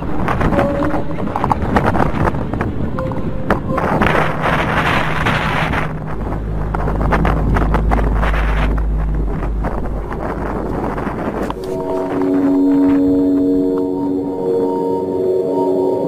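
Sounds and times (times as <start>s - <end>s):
low steady drone: 0.0s - 16.0s
wind buffeting microphone: 0.0s - 16.0s.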